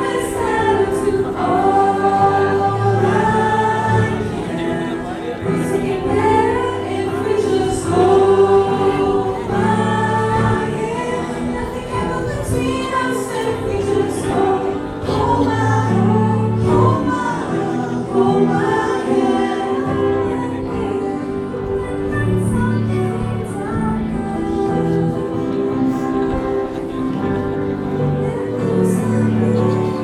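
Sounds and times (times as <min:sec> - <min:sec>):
electric guitar: 0:00.0 - 0:30.0
group of young voices singing: 0:00.0 - 0:30.0
keyboard: 0:00.0 - 0:30.0.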